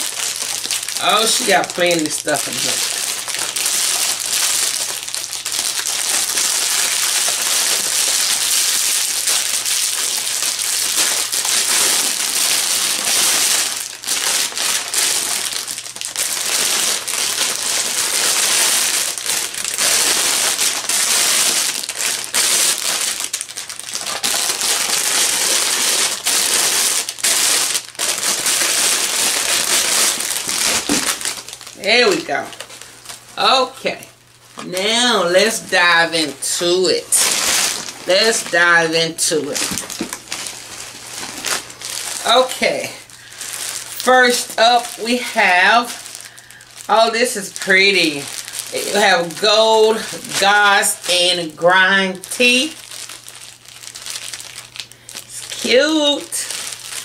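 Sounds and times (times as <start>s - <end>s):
cellophane crinkling and rustling: 0.0s - 57.0s.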